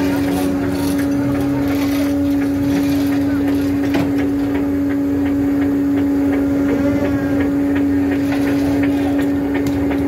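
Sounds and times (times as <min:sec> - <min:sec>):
engine and machinery hum: 0:00.0 - 0:10.0.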